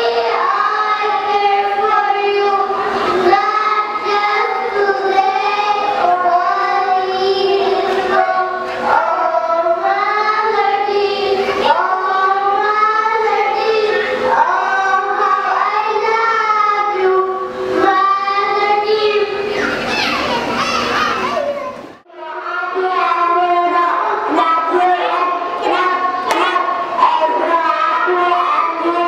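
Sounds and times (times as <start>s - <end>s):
children singing into microphone: 0.0s - 29.0s.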